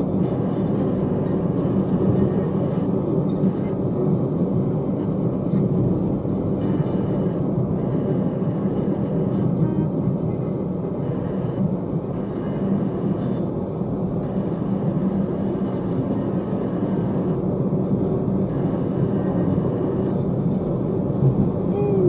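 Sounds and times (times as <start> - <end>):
car road noise inside cabin: 0.0 - 22.0.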